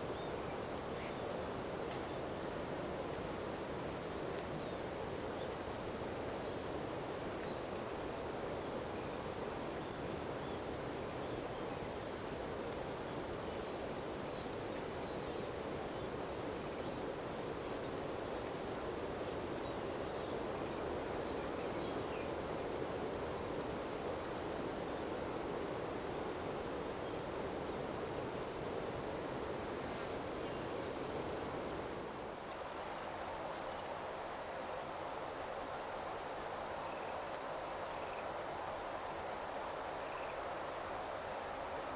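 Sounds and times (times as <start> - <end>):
crickets trilling: 0.0 - 41.9.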